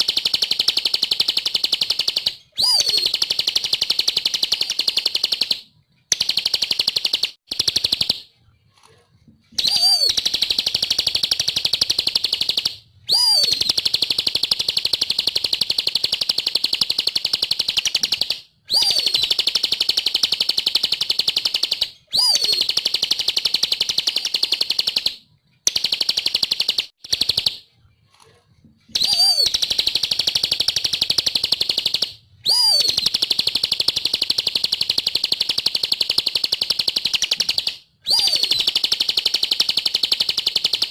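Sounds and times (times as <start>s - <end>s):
bird high chattering song: 0.0s - 8.2s, 9.6s - 25.1s, 29.0s - 40.9s.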